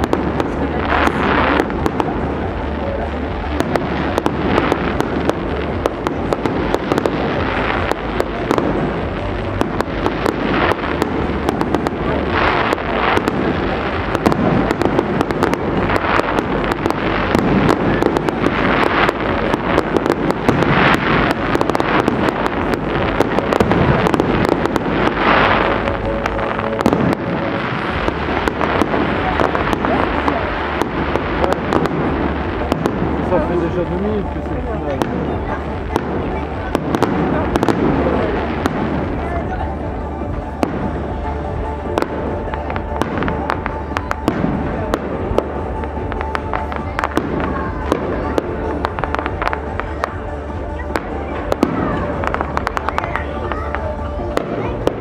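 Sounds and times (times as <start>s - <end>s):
fireworks bursting: 0.0s - 55.0s
music playing: 0.0s - 55.0s.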